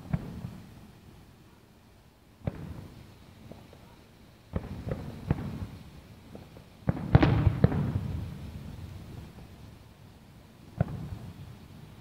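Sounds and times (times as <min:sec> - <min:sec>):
fireworks bangs: 0:00.0 - 0:01.0, 0:02.4 - 0:09.8, 0:10.6 - 0:12.0
faint fireworks pops: 0:00.0 - 0:01.6, 0:02.4 - 0:12.0.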